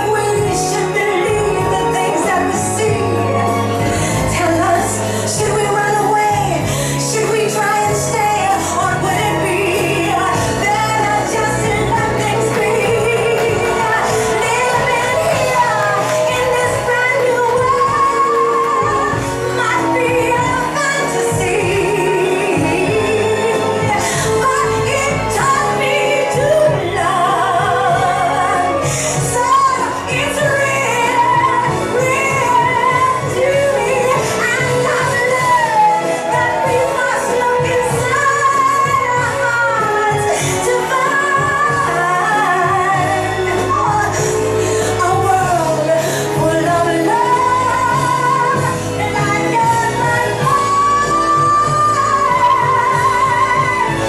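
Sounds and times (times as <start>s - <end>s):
bass line: 0.0s - 54.0s
pop song with singer: 0.0s - 54.0s.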